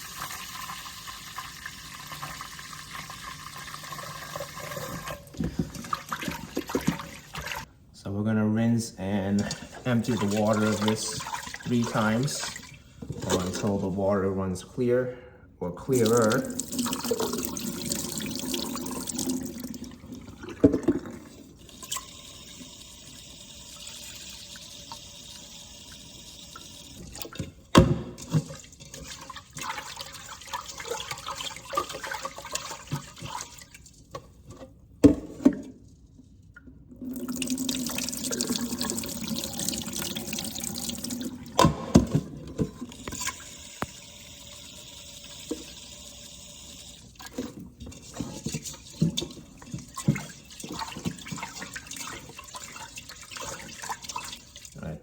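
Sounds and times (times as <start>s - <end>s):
tap water running into pot: 0.0s - 7.7s, 9.4s - 13.8s, 15.9s - 35.6s, 36.9s - 54.8s.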